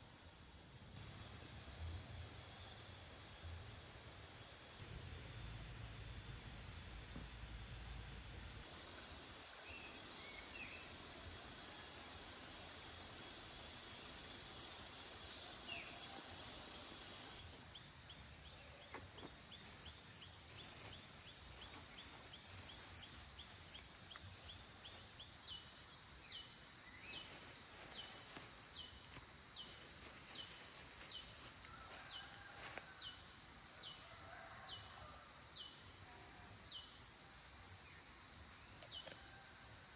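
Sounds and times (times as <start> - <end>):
high-pitched insect drone: 0.0 - 39.9
short falling insect call: 0.0 - 39.9.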